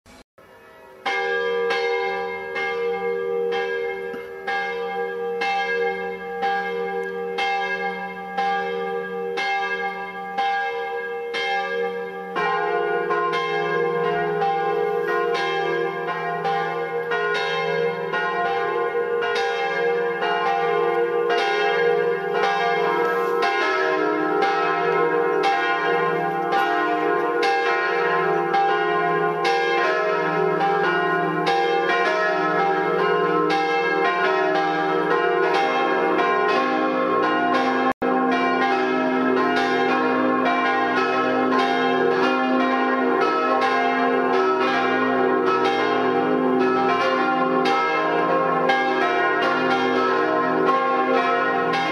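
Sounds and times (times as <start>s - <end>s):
church bell striking: 0.1s - 51.9s
deeper church bell: 0.1s - 51.9s
third church bell: 0.1s - 51.9s.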